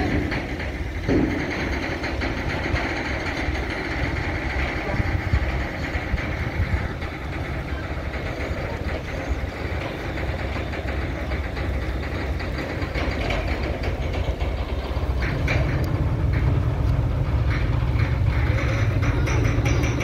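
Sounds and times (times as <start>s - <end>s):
lorry engine running: 0.0s - 20.0s
light clicks and knocks: 0.1s - 20.0s.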